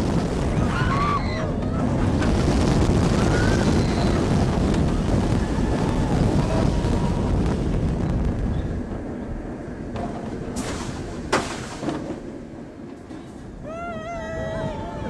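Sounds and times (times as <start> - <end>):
roller coaster rumbling on track: 0.0 - 15.0
wind over microphone: 0.0 - 15.0.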